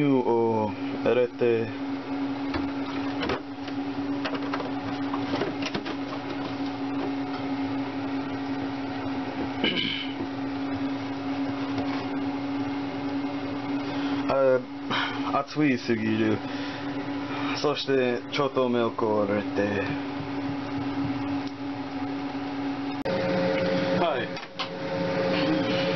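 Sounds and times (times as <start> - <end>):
kitchen exhaust fan humming: 0.0 - 25.9.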